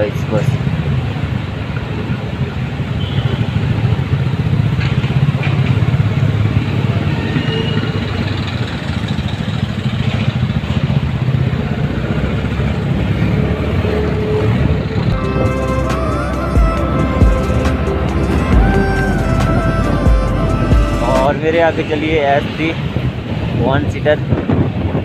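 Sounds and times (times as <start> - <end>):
road noise: 0.0 - 25.0
motorcycle engine running: 0.6 - 21.5.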